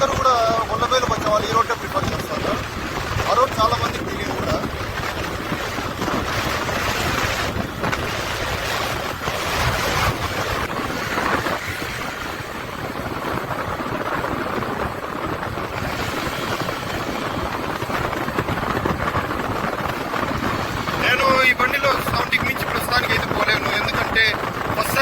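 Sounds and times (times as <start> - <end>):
motorcycle engine running: 0.0 - 21.3
wind rush over microphone: 0.0 - 25.0.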